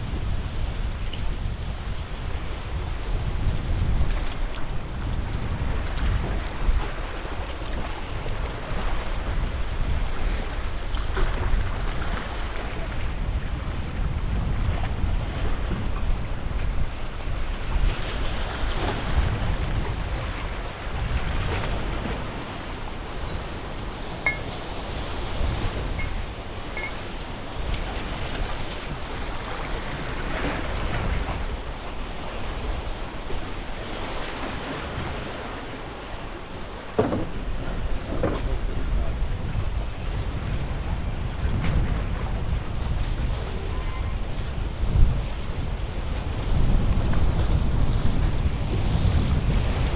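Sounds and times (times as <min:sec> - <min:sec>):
wind rumbling on microphone: 0:00.0 - 0:49.9
lake waves lapping: 0:02.1 - 0:49.9.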